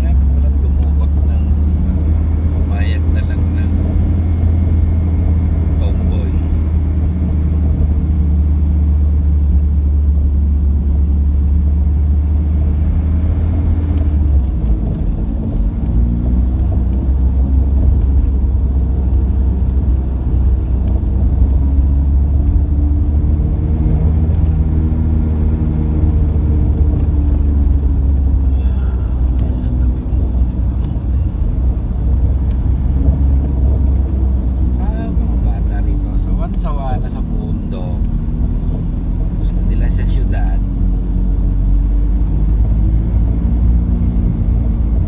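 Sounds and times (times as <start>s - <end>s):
vehicle engine and road drone: 0.0s - 45.0s.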